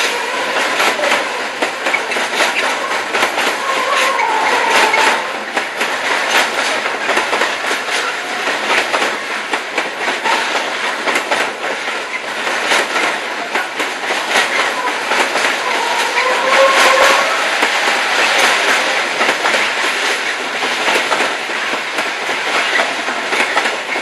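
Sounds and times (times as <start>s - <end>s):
freight train wheels rumbling on rails: 0.0s - 24.0s
wheels clicking over rail joints: 0.0s - 24.0s.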